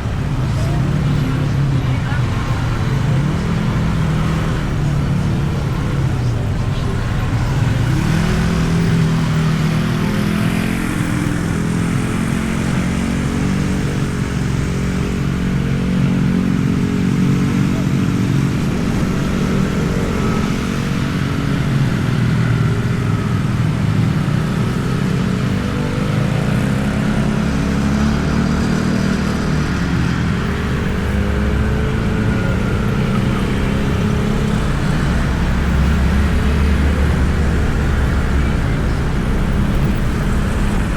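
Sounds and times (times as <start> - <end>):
motorcycle engine revving: 0.0 - 40.9
wind and road rumble: 0.0 - 40.9.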